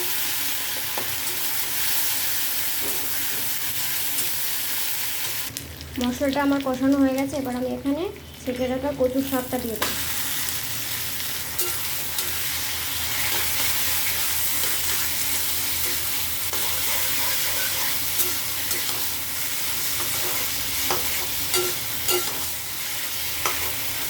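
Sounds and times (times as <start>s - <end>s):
leaves sizzling in hot oil: 0.0s - 24.0s.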